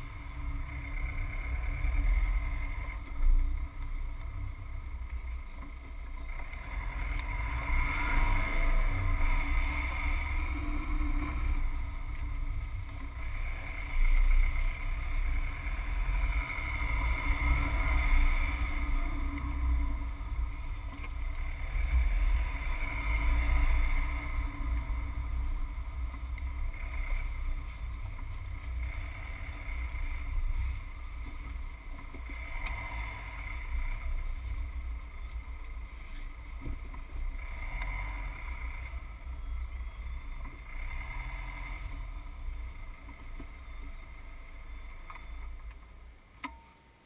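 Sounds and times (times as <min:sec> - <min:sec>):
car engine low rumble: 0:00.0 - 0:47.0.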